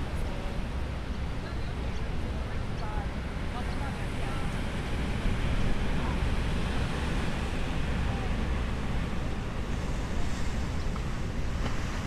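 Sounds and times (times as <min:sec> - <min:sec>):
rough surf: 0:00.0 - 0:12.0.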